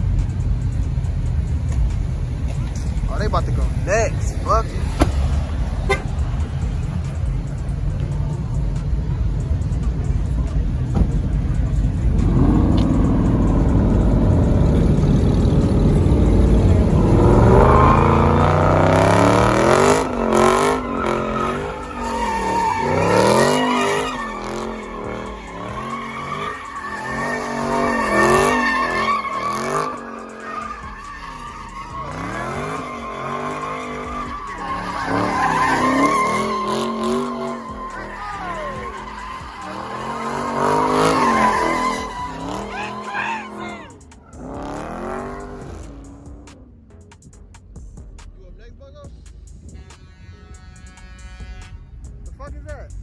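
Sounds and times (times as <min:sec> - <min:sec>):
tires squealing on pavement: 0:00.0 - 0:46.7
car engine revving: 0:00.0 - 0:48.6.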